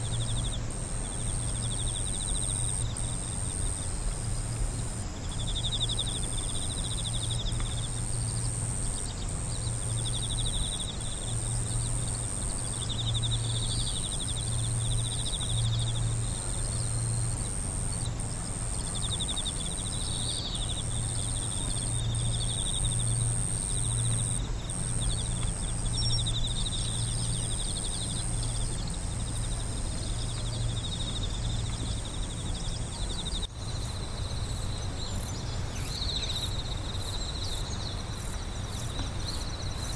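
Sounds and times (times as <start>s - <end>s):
crickets chirping: 0.0s - 39.9s
high-pitched insect drone: 0.0s - 39.9s.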